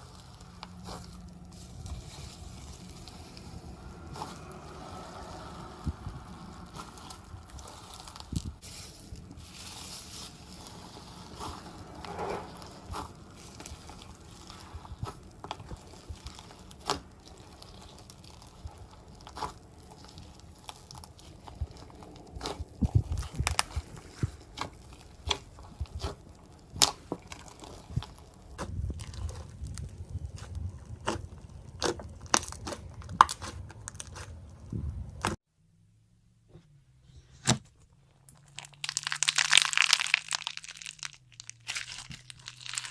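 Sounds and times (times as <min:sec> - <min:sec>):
slime squelching by hand: 0:00.0 - 0:35.4, 0:38.0 - 0:42.9.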